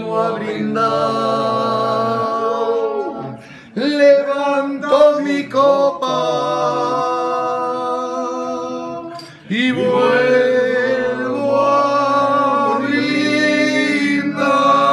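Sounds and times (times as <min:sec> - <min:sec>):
men singing held notes: 0:00.0 - 0:14.9.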